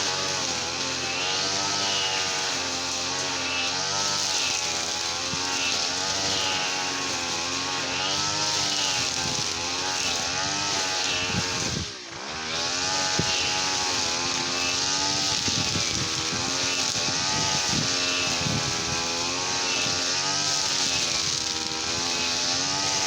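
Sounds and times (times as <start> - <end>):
brush cutter engine running: 0.0 - 23.0.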